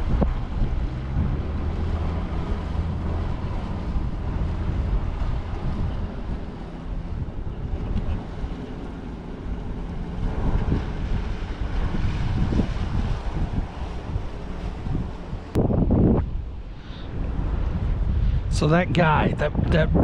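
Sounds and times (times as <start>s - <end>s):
outboard motor droning: 0.0s - 20.0s
wind buffeting microphone: 0.0s - 20.0s.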